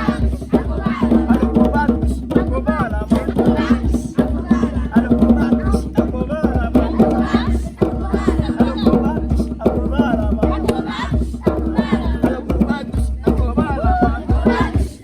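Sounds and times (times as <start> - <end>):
drumming and percussion: 0.0 - 15.0
voices singing together: 0.0 - 15.0.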